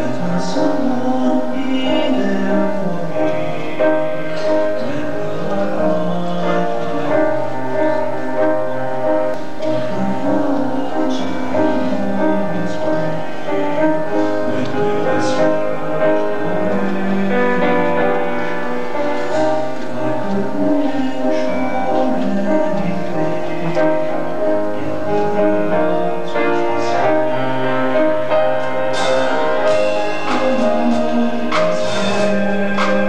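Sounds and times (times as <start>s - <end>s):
song with instrumental accompaniment: 0.0s - 33.0s.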